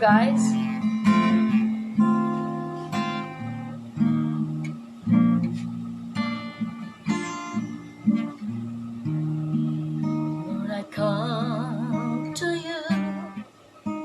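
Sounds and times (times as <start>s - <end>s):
acoustic guitar strummed: 0.0s - 14.0s.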